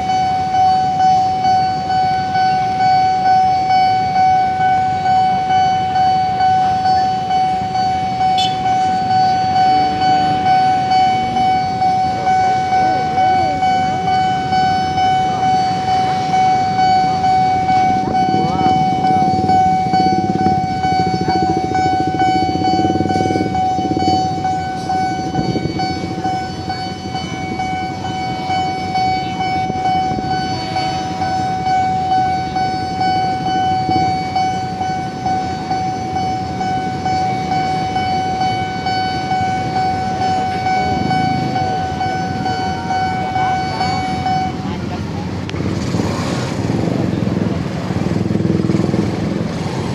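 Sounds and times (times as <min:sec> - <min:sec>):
level-crossing warning bell ringing: 0:00.0 - 0:49.9
motorbikes: 0:00.0 - 0:49.9
road traffic rumble: 0:00.0 - 0:49.9.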